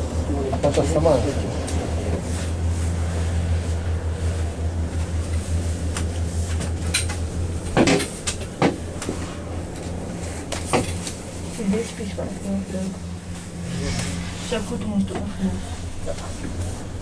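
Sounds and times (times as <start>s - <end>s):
gondola cabin drone: 0.0s - 17.0s.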